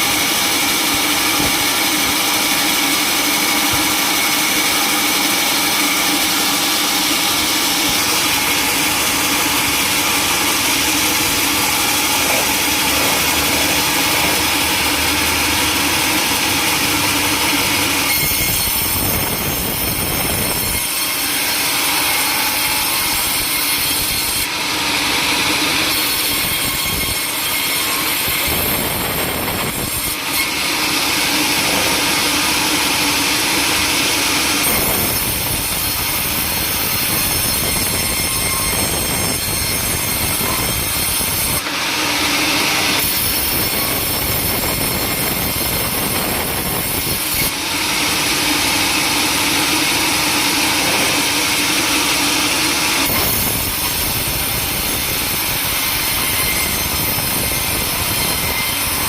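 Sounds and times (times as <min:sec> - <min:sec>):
saw cutting through timber: 0:00.0 - 0:59.0
sawmill machinery running: 0:00.0 - 0:59.0.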